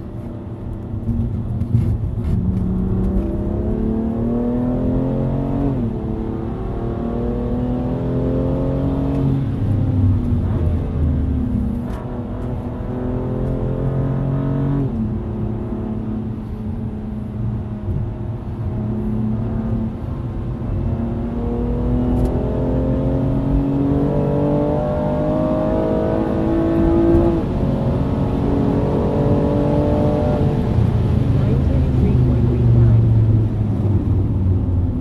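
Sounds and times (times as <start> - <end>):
car engine revving with upshifts: 0.0 - 34.2.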